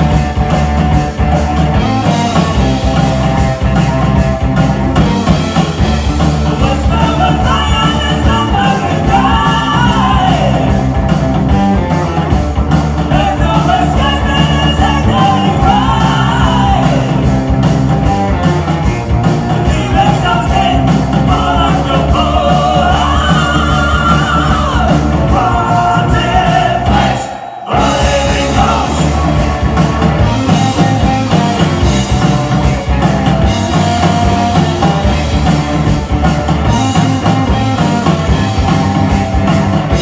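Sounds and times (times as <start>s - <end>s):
heavy metal band playing live: 0.0s - 40.0s
wavering lead guitar lines: 0.0s - 40.0s.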